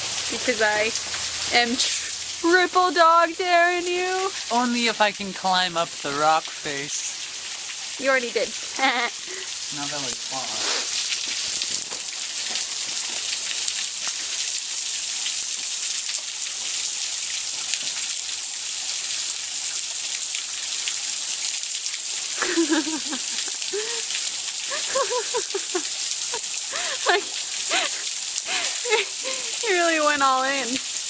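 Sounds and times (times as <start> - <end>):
small waterfall splashing: 0.0 - 31.0.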